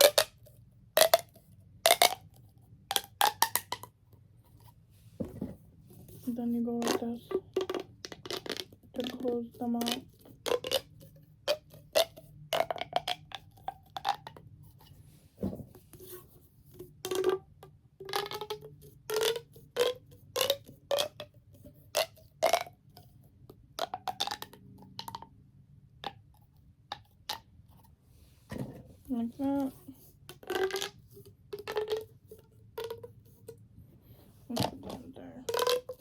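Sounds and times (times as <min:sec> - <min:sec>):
plastic tubes popping and clicking: 0:00.0 - 0:33.7, 0:34.5 - 0:36.0.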